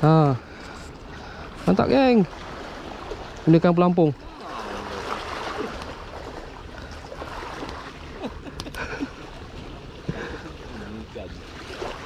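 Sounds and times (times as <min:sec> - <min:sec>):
water washing against rocky shore: 0:01.6 - 0:12.0.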